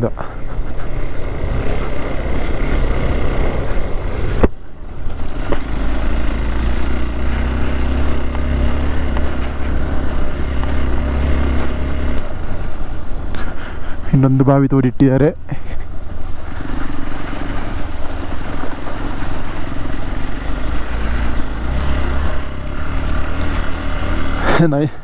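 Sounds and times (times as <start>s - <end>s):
motorcycle engine running: 0.0s - 14.3s, 15.8s - 24.7s
wind and road noise: 0.0s - 25.0s.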